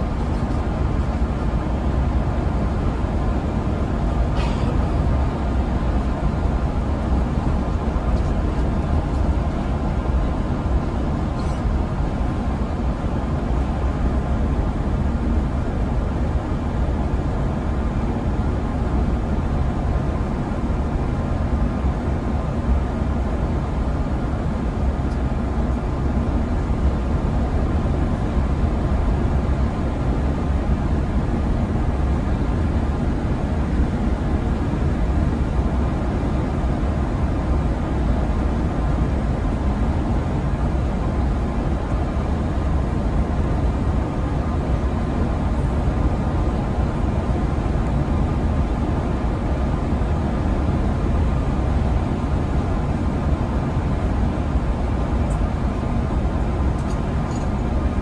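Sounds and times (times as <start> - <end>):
coach engine and road drone: 0.0 - 58.0.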